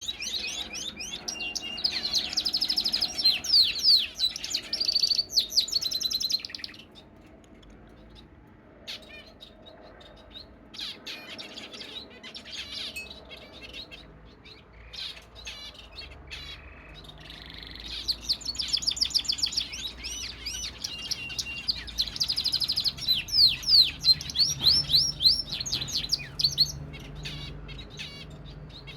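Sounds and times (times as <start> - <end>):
canary singing trills: 0.0 - 7.2, 7.9 - 28.9
soft bird chirps: 0.0 - 8.3, 8.9 - 28.9.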